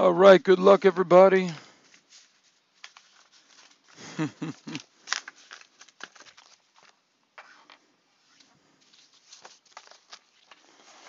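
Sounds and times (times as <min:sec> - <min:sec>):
cardboard and plastic crinkling: 0:00.6 - 0:07.7, 0:08.3 - 0:11.0.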